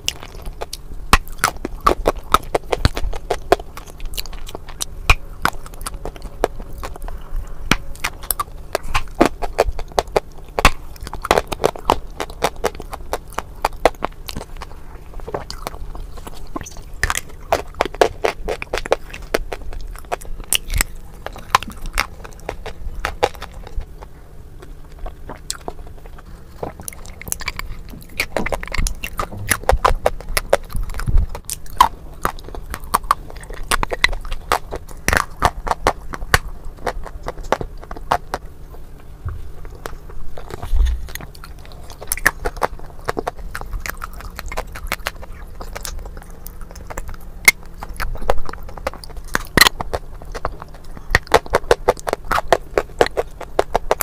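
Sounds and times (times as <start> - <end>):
dry clay being chewed: 0.0 - 54.0.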